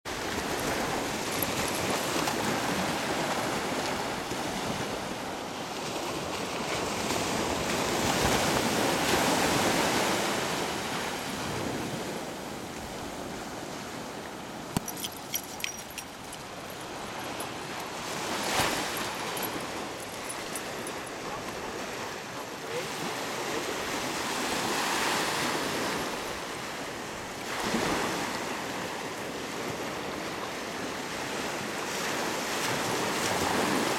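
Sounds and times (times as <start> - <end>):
small waves breaking on beach: 0.1 - 33.9.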